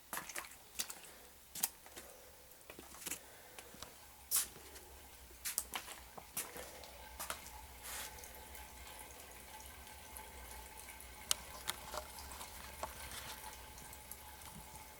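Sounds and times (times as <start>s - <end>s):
water drips landing: 0.0s - 14.9s
water trickling: 0.0s - 14.9s.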